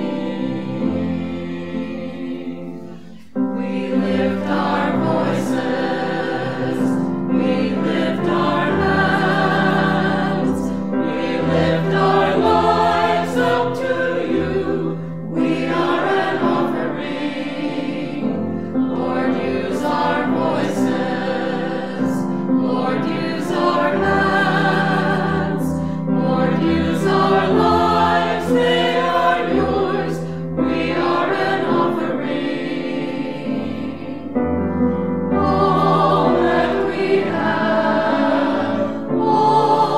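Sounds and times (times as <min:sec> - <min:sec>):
choir singing: 0:00.0 - 0:39.9
low musical accompaniment: 0:00.0 - 0:39.9.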